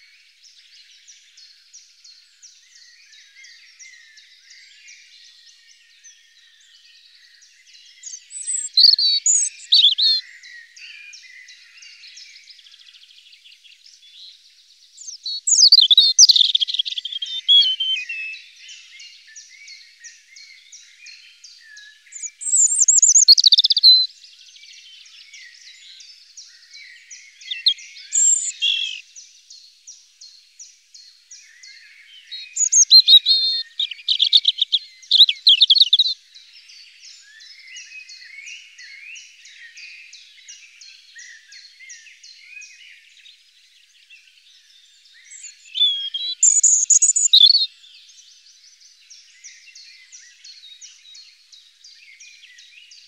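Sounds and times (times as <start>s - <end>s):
birds singing and chirping: 0.0s - 53.0s.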